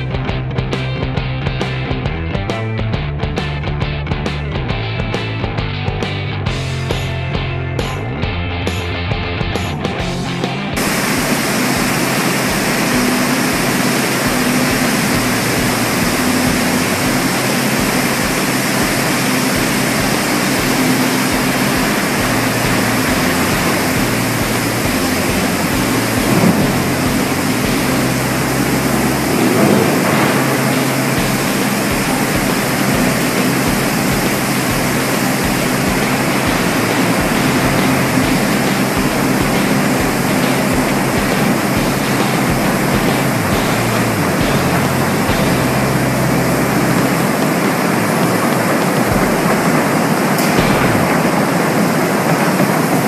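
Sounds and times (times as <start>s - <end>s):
industrial machinery roar: 0.0s - 53.0s
low hum: 0.0s - 53.0s.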